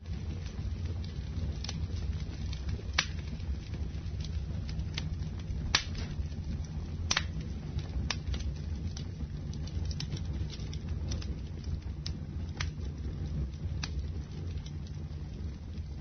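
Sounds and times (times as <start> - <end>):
burning wood crackling: 0.0 - 16.0
campfire flames rumbling: 0.0 - 16.0.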